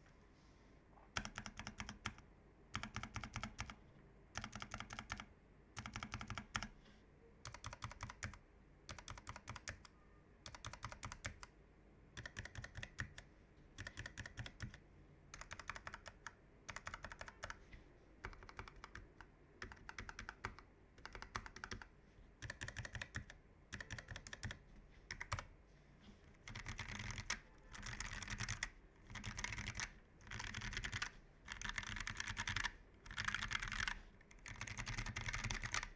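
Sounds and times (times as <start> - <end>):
mechanical keyboard typing: 1.2 - 3.8, 4.4 - 6.7, 7.4 - 11.5, 12.2 - 17.6, 18.2 - 25.5, 26.4 - 35.9.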